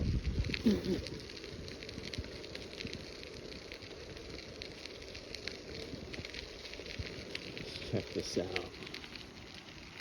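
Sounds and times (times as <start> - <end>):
bicycle tyres rolling on gravel: 0.0 - 10.0.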